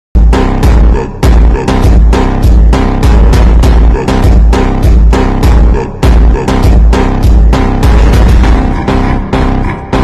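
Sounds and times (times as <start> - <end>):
bass-heavy music with beat: 0.2 - 10.0.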